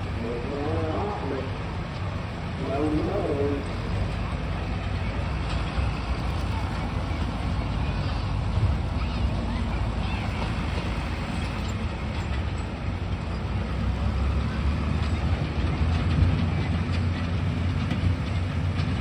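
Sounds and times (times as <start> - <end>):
tractor engine driving by: 0.0 - 19.0.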